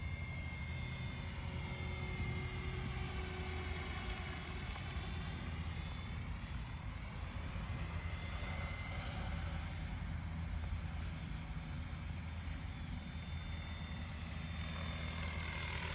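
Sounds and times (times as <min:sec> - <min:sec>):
electric motor whine: 0:00.0 - 0:15.9
helicopter rotor hum: 0:00.0 - 0:15.9.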